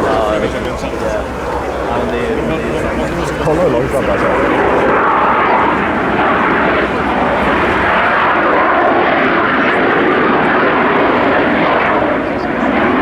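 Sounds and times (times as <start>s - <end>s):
loud jet engine noise: 0.0s - 13.0s.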